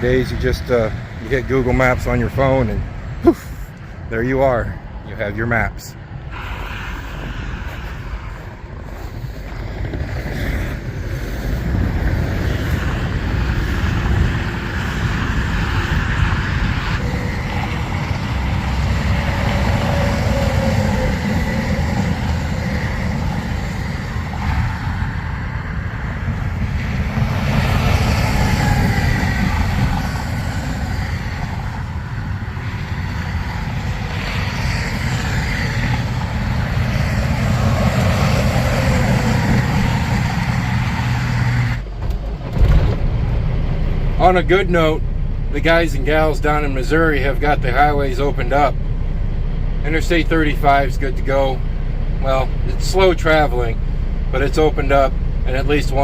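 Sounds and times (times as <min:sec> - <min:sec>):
truck engine and road rumble: 0:00.0 - 0:56.0.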